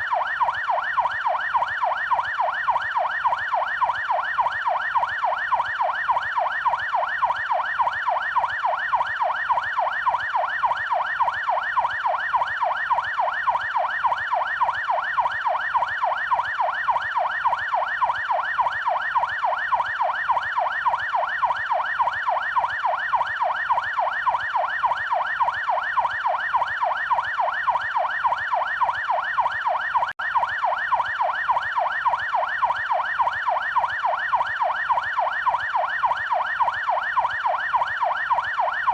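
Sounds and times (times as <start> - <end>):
police yelp siren: 0.0 - 38.9.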